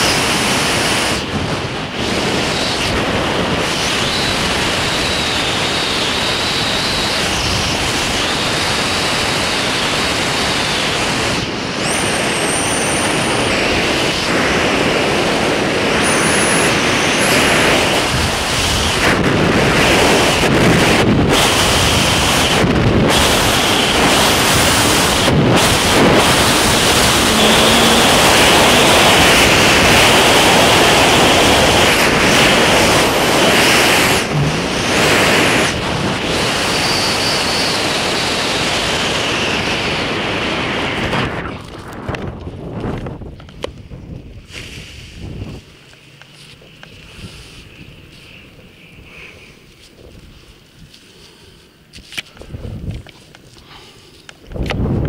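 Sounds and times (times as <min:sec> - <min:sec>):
wind buffeting microphone: 0:00.0 - 0:51.0, 0:52.3 - 0:53.4, 0:54.4 - 0:55.0.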